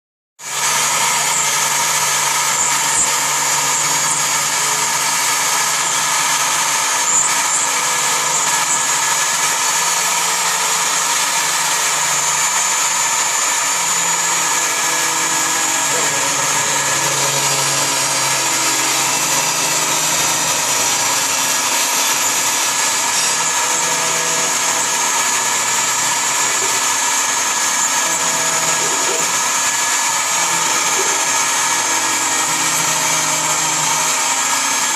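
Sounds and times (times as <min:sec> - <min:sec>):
milling machine spindle whine: 0:00.4 - 0:34.9.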